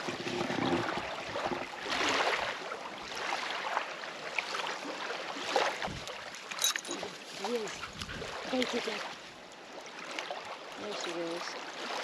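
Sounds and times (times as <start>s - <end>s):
rushing water: 0.0s - 12.0s
water splashing and sloshing: 0.0s - 12.0s.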